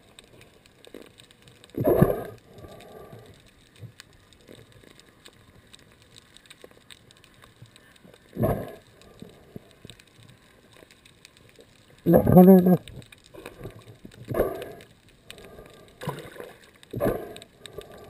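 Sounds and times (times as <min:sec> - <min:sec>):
underwater crackling clicks: 0:00.0 - 0:18.0.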